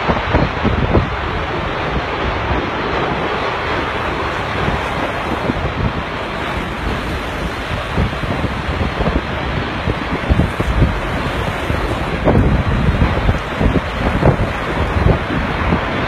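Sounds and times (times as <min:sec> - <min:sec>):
low gusty thumps: 0:00.0 - 0:16.0
wind blowing across microphone: 0:00.0 - 0:16.0.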